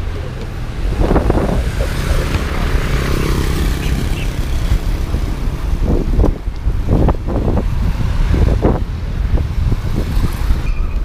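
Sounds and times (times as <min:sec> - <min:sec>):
motor vehicle passing: 0:00.0 - 0:10.6
wind buffeting microphone: 0:00.0 - 0:11.0.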